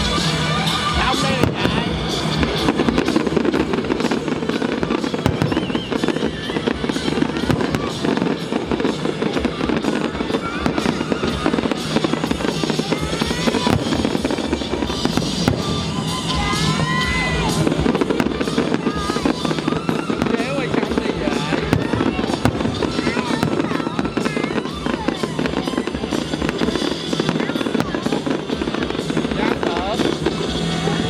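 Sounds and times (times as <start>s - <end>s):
fireworks crackling: 0.0s - 31.0s
music playing: 0.0s - 31.0s.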